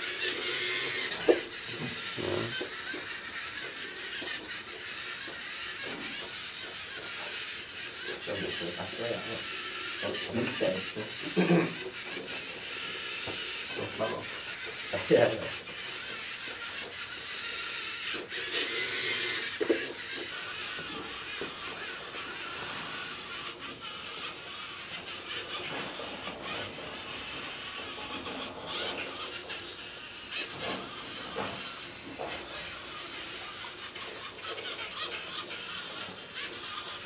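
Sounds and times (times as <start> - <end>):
servo motors whirring: 0.0 - 37.0.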